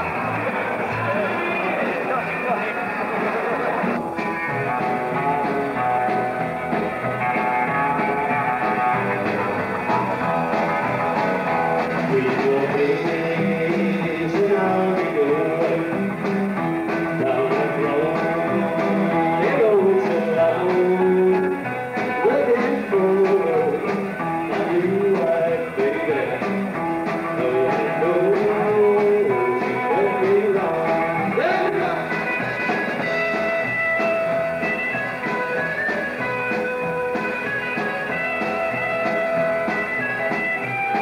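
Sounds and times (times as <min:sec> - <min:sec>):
rock and roll band playing: 0:00.0 - 0:41.0
drum beat: 0:03.1 - 0:41.0.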